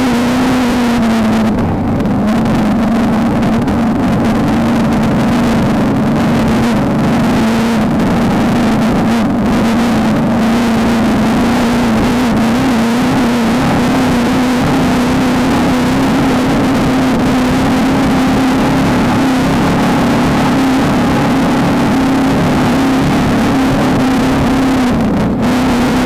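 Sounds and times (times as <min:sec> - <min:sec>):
loud rushing noise: 0:00.0 - 0:26.0
race car engine at high revs: 0:00.0 - 0:26.0.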